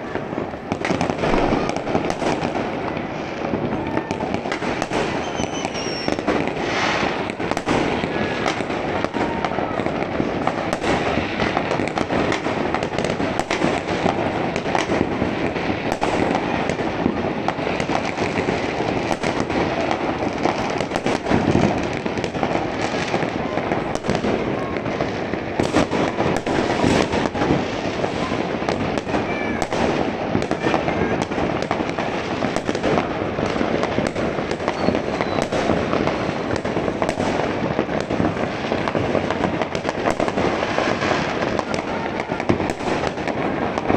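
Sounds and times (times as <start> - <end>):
fireworks crackling and popping: 0.0 - 43.9.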